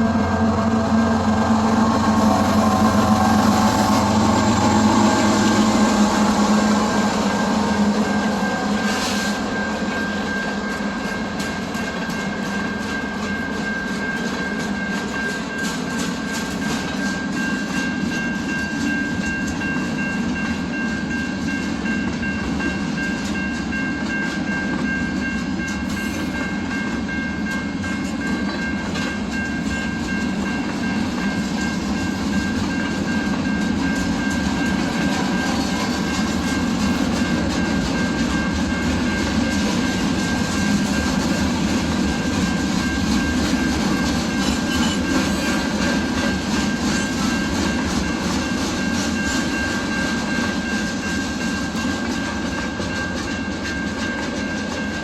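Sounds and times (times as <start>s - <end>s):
train engine drone: 0.0s - 55.0s.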